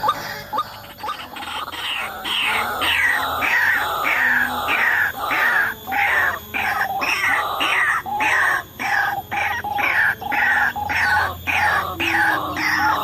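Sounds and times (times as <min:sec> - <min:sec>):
waterhen harsh calls: 0:00.0 - 0:13.0.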